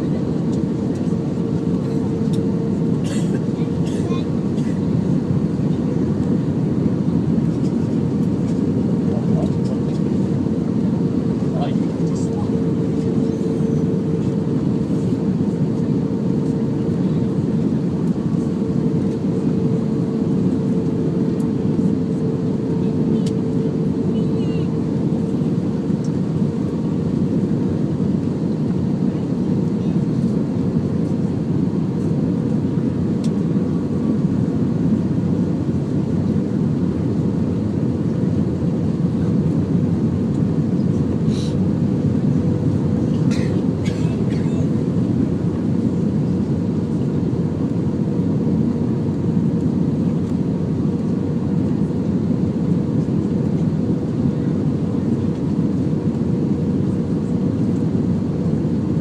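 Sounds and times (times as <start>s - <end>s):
constant hum: 0.0s - 59.0s
jet engine and airflow drone: 0.0s - 59.0s.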